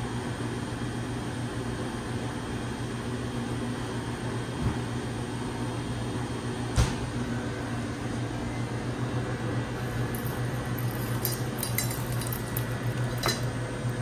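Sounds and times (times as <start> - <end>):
kitchen machinery humming: 0.0 - 14.0.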